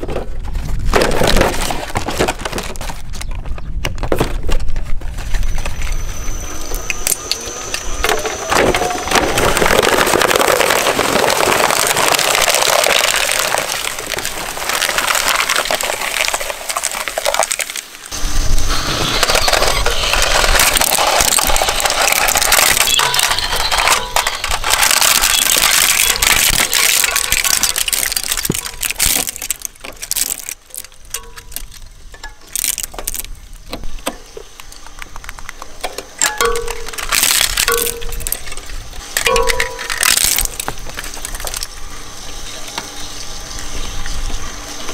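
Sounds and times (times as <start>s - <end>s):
shredder crunching plastic: 0.0s - 41.8s.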